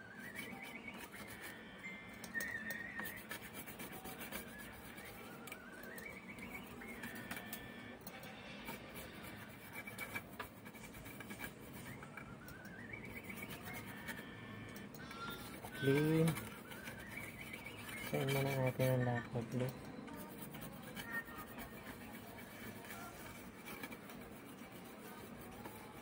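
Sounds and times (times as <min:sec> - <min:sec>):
brush scrubbing circuit board: 0:00.0 - 0:26.0.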